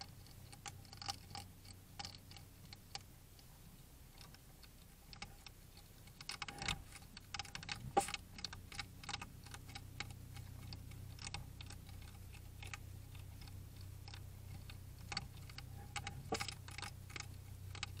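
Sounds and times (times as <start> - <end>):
hedgehogs chewing crunches: 0.0 - 18.0
steady low hum: 0.0 - 18.0.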